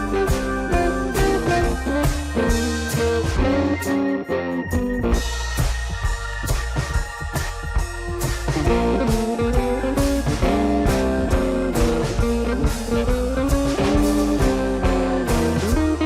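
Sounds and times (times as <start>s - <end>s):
bass guitar: 0.0s - 16.0s
drum kit: 0.0s - 16.0s
lead electric guitar melody: 0.0s - 16.0s.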